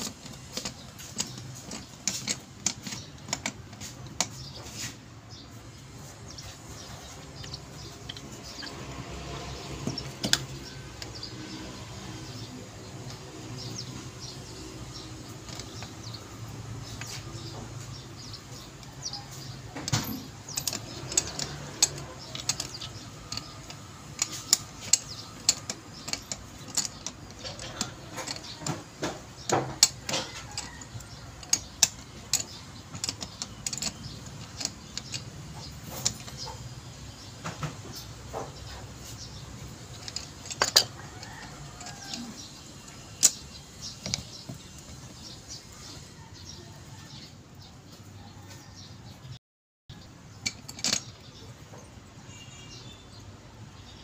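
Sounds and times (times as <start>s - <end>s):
hand tools clicking on metal: 0.0s - 47.6s, 49.9s - 52.1s.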